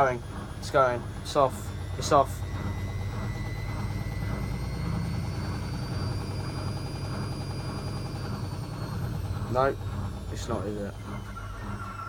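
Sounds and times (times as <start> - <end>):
faint high motor whine: 0.0 - 12.0.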